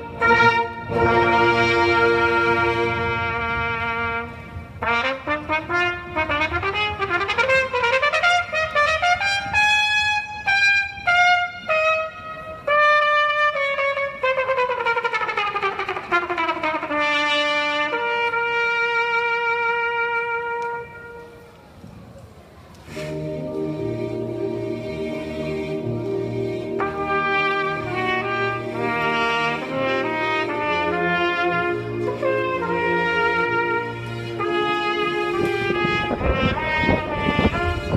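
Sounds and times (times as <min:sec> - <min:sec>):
solo trumpet: 0:00.0 - 0:21.6, 0:22.7 - 0:37.9.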